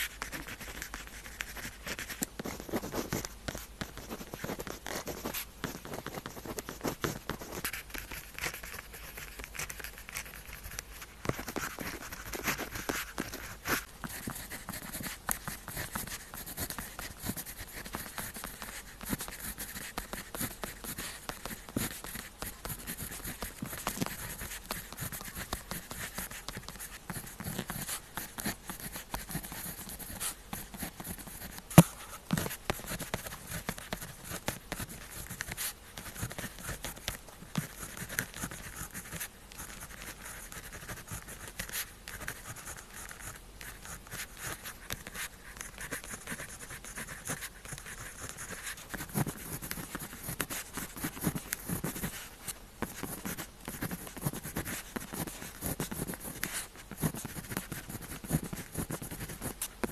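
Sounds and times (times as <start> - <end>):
pen scratching on paper: 0.0 - 59.9.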